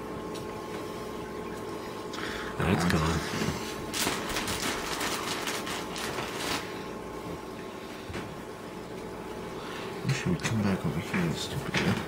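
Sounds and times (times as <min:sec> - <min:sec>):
low pump hum: 0:00.0 - 0:12.0.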